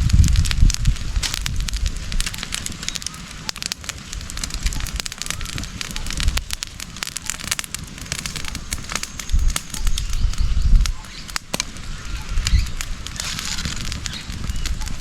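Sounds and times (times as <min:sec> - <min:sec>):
cooking fire crackling and popping: 0:00.0 - 0:15.0.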